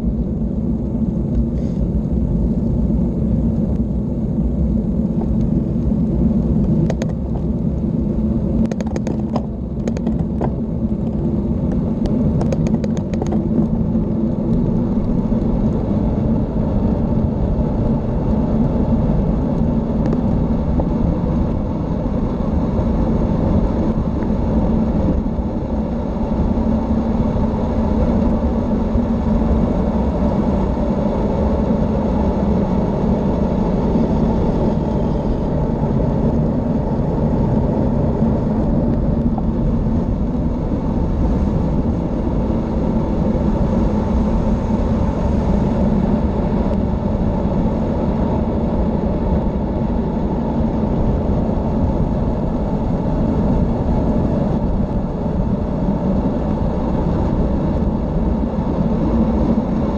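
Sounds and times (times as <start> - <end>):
wind and tyre rumble: 0.0 - 59.9.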